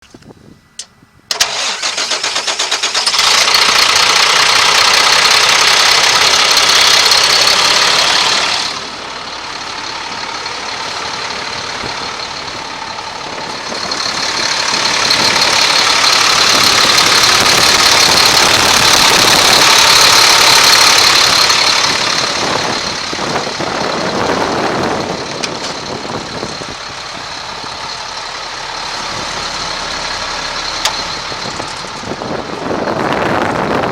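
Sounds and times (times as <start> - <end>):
diesel truck engine starting and revving: 1.3 - 33.9.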